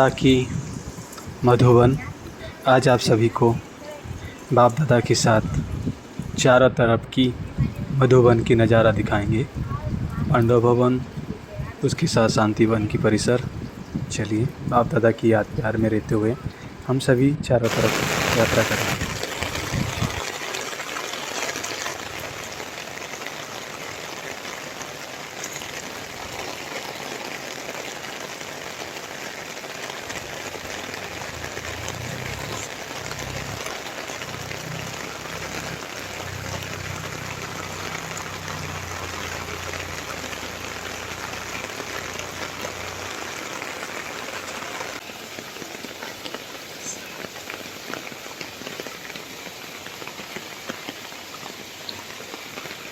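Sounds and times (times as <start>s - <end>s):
rain splashing on hard surfaces: 0.0s - 52.9s.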